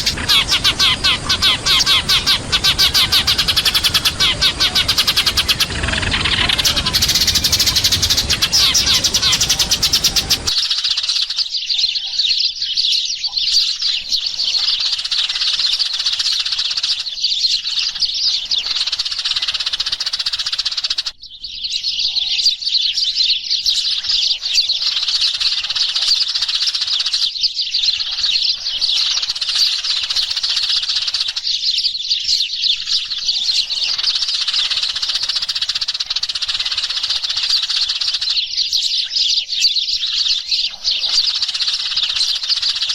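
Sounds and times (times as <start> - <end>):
sparrows chirping: 0.0 - 42.9.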